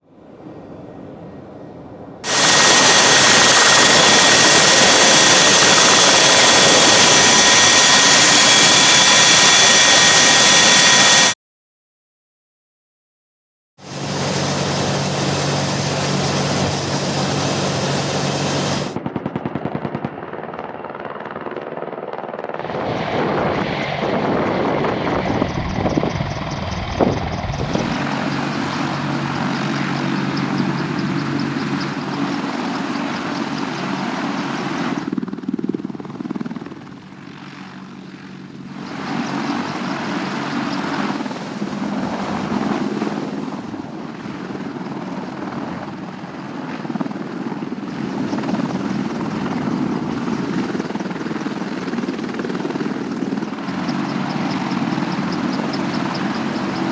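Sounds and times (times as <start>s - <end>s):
helicopter rotor and engines: 0.0s - 11.4s, 13.8s - 56.9s.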